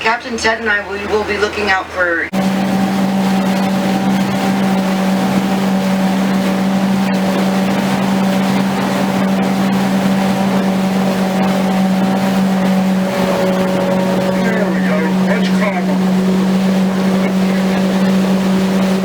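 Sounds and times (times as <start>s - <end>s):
boat motor running: 0.0s - 19.0s
rushing water noise: 2.3s - 19.0s.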